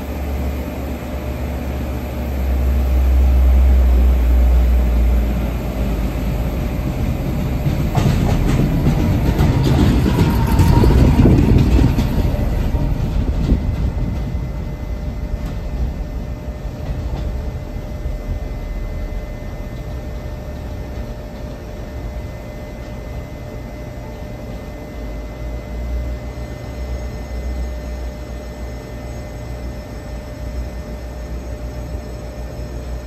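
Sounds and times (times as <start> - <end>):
railcar rumbling on track: 0.0 - 33.0.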